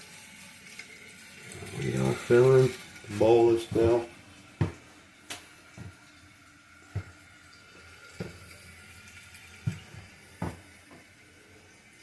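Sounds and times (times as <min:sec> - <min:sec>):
toilet tank refilling hiss: 0:00.0 - 0:12.0.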